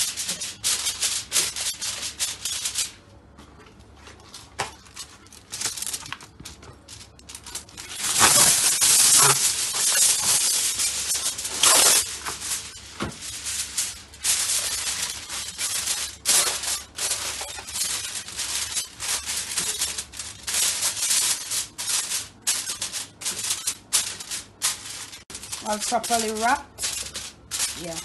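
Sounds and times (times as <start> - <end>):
foil ripping: 0.0 - 2.9, 4.4 - 28.0
foil rustling and crinkling: 0.0 - 28.0.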